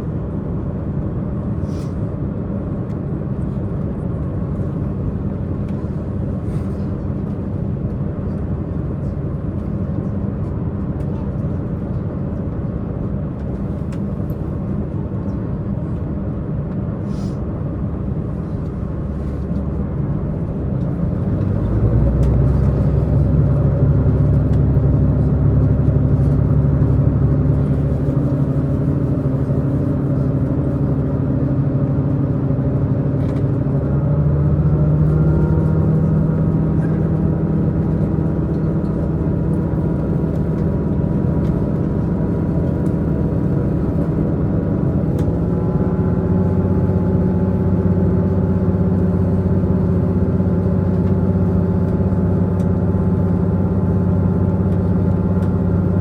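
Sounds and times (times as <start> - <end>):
diesel engine drone: 0.0 - 56.0
wheel and rail rumble: 0.0 - 56.0.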